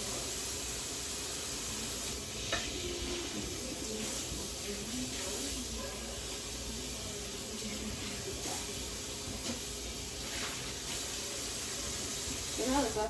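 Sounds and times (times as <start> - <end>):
frying pan being washed: 0.0 - 13.0
tap water running: 0.0 - 13.0.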